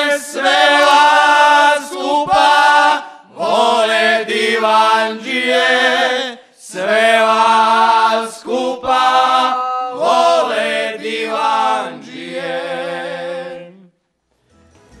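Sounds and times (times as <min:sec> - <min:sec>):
male choir singing in harmony: 0:00.0 - 0:13.9.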